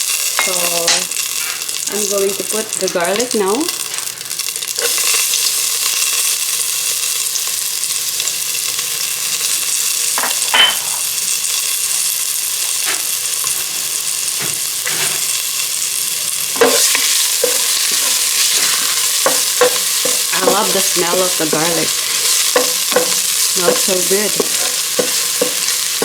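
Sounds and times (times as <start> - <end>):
garlic sizzling in a pan: 0.0 - 26.0.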